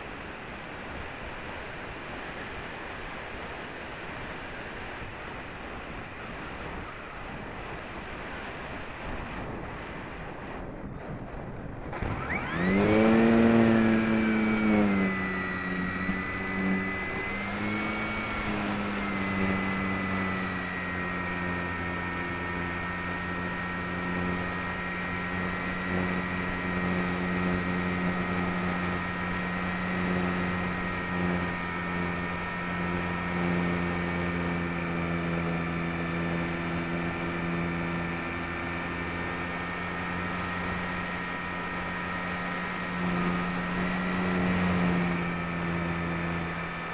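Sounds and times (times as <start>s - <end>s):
electric motor and propeller whine: 0.0s - 46.9s.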